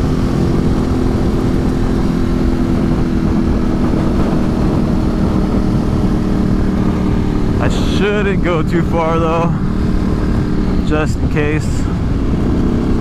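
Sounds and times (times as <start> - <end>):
motorcycle engine cruising: 0.0 - 13.0
wind rushing over microphone: 0.0 - 13.0.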